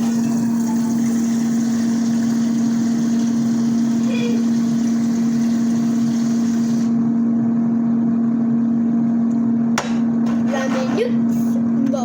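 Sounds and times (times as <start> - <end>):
loud electrical hum: 0.0 - 12.0.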